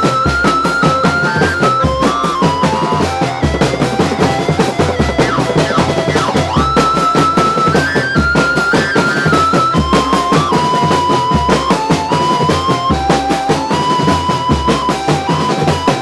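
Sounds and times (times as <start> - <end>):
bass drums and tenor drums beating: 0.0 - 16.0
high sliding melody: 0.0 - 16.0.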